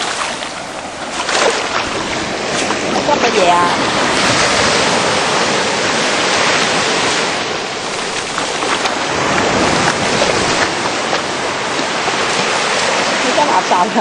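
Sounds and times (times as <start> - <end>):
surf washing onto beach: 0.0 - 14.0.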